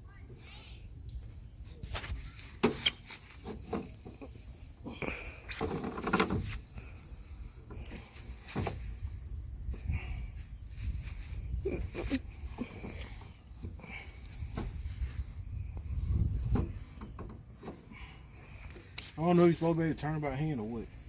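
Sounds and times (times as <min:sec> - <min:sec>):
insects buzzing: 0:00.1 - 0:21.0.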